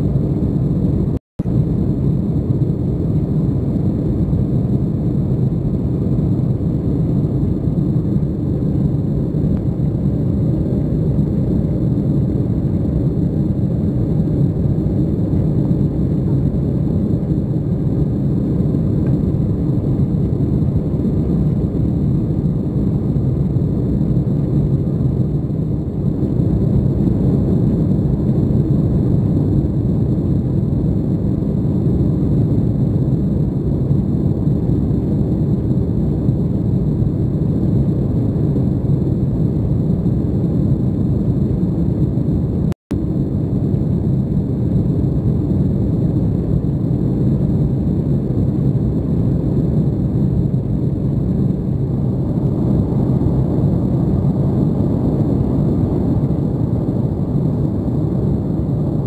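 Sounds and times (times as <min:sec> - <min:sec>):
jet engines rumbling in cabin: 0:00.0 - 0:59.0.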